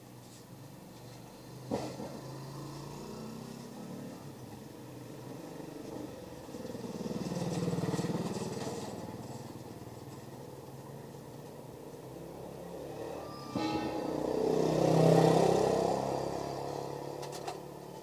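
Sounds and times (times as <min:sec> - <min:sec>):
passing vehicle engine hum: 0:01.0 - 0:18.0.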